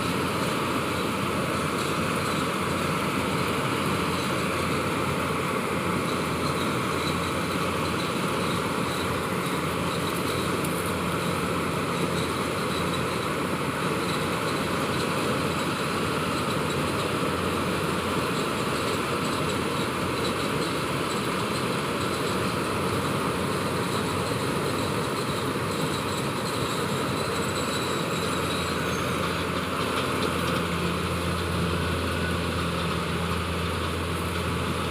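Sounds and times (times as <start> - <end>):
combine harvester diesel engine: 0.0 - 34.9.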